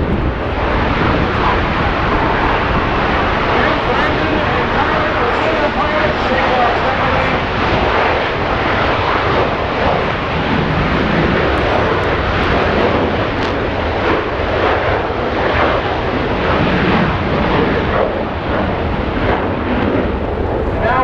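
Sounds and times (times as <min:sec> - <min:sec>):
aircraft engine noise: 0:00.0 - 0:21.0.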